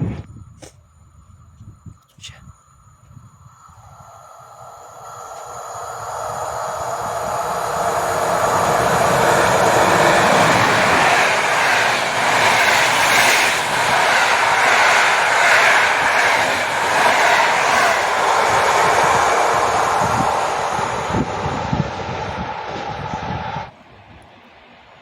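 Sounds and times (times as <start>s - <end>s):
train passing: 3.5s - 25.0s.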